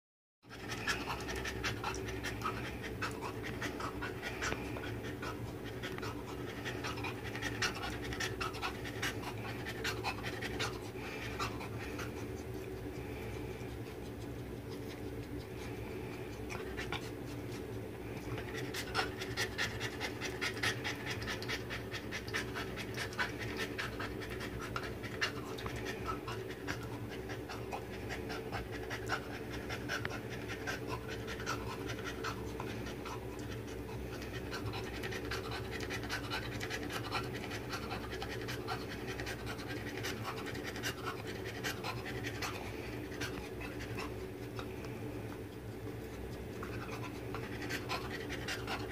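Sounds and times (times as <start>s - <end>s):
dog panting: 0.4s - 48.9s
steady low hum: 0.4s - 48.9s
dog licking and nibbling: 0.6s - 48.6s.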